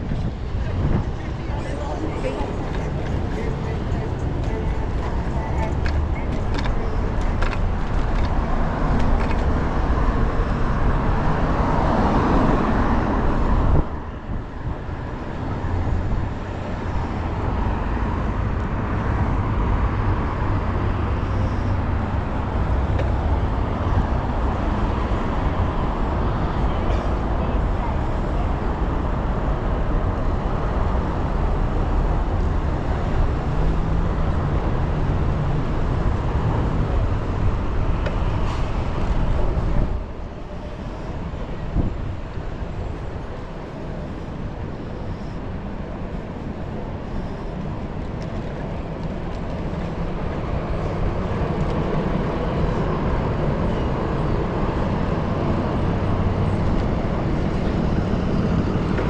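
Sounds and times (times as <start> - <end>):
city street traffic: 0.0 - 59.0.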